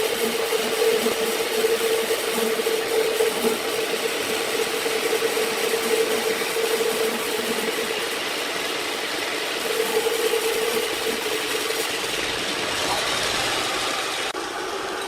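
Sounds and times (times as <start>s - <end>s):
sawmill machinery running: 0.0s - 15.0s
steady machine whine: 0.0s - 15.0s.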